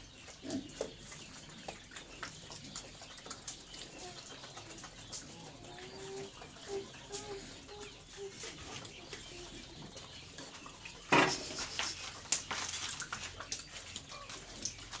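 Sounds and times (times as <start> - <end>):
pigs chewing and smacking: 0.0 - 15.0.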